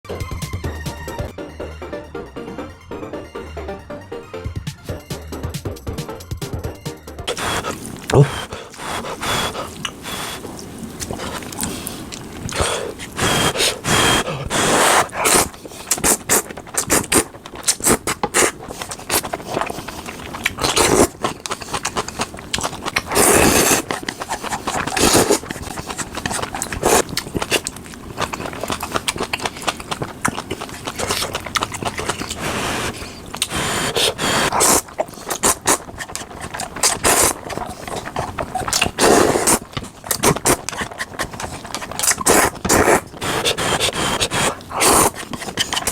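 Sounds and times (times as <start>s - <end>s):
chewing: 7.3s - 45.9s
person slurping noodles: 7.3s - 45.9s.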